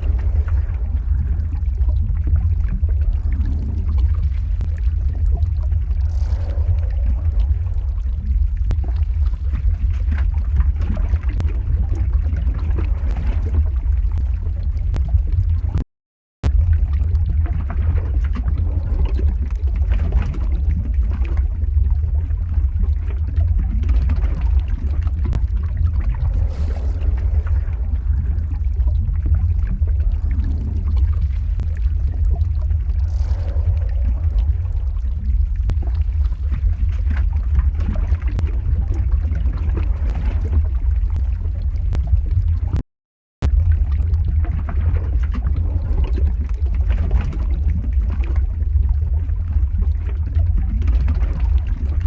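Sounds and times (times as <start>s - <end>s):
lava crackling and hissing: 0.0s - 15.8s, 16.5s - 42.8s
lava deep rumble: 0.0s - 15.8s, 16.4s - 42.8s, 43.4s - 52.0s.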